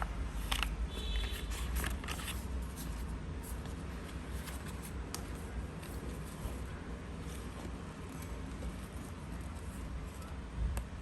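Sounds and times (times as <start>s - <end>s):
paper rustling: 0.3s - 10.3s.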